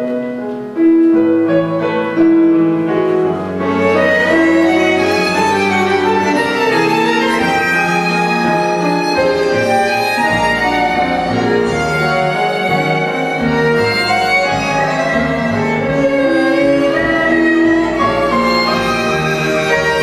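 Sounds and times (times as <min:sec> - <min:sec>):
tango orchestra playing: 0:00.0 - 0:20.0
violin: 0:00.0 - 0:20.0.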